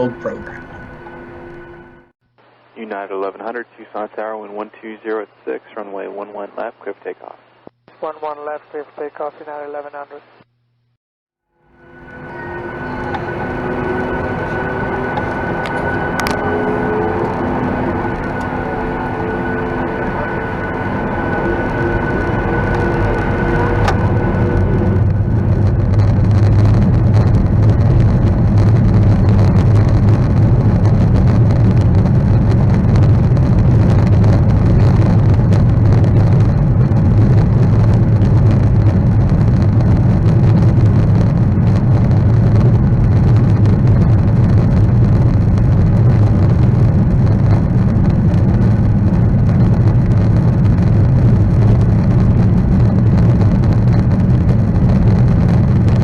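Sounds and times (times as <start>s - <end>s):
jet engines rumbling in cabin: 0.0s - 2.2s, 11.8s - 56.0s.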